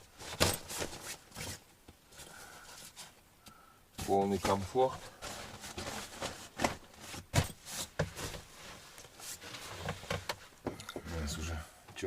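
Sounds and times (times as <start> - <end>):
rustling: 0.0 - 3.2, 4.0 - 11.5.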